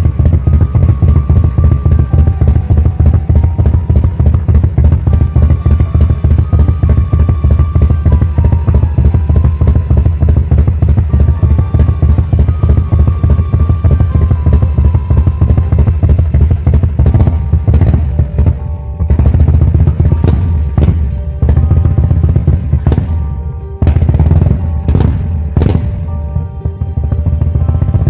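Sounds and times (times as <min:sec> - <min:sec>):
faint music: 0:00.0 - 0:28.0
motorcycle engine idling: 0:00.0 - 0:28.0.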